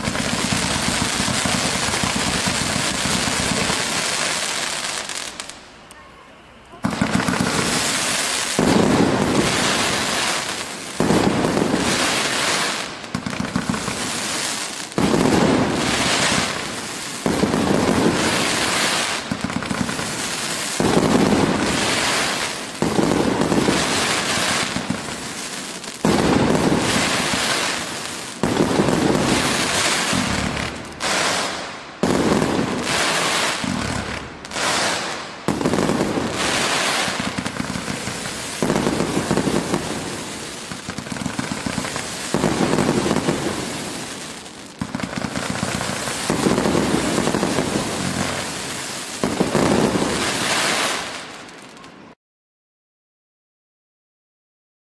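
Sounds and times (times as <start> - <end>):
fireworks crackling: 0.0 - 52.2.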